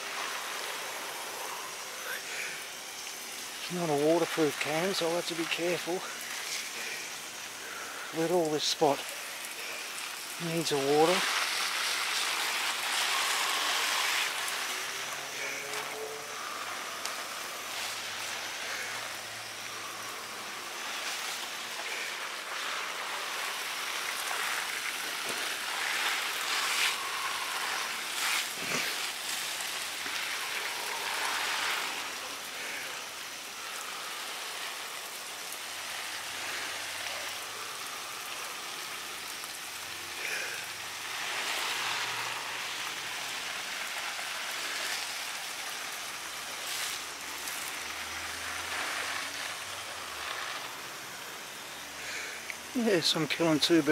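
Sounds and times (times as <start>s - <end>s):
water spraying onto plants: 0.0s - 53.9s.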